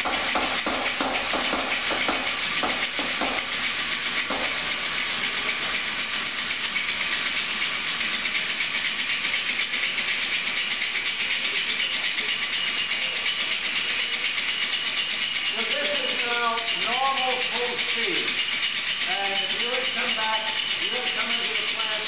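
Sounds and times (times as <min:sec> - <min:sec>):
steam engine pulsing: 0:00.0 - 0:22.0
steam hiss: 0:00.0 - 0:22.0.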